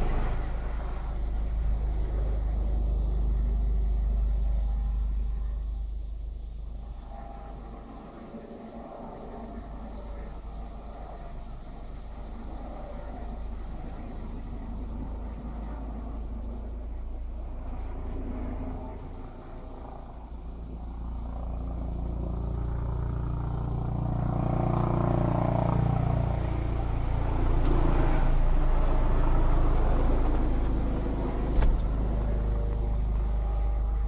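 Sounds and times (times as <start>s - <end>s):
helicopter rumble overhead: 0.0s - 34.0s.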